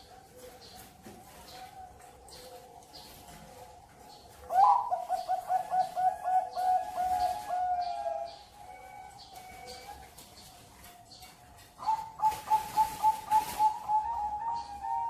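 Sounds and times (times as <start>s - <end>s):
dove cooing: 0.0s - 10.2s, 11.8s - 15.0s.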